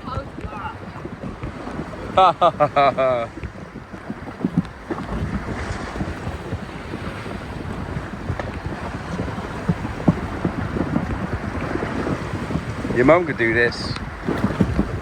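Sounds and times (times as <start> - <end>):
water sloshing: 0.0 - 15.0
water splashes: 0.0 - 15.0
wind buffeting microphone: 0.0 - 15.0.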